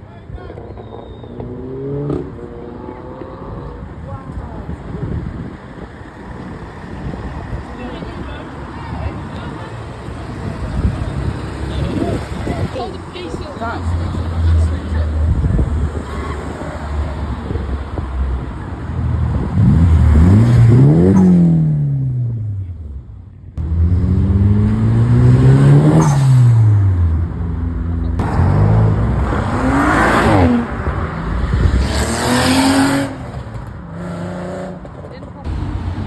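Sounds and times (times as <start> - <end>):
cars accelerating past: 0.5 - 4.0, 4.9 - 22.6, 23.6 - 36.0.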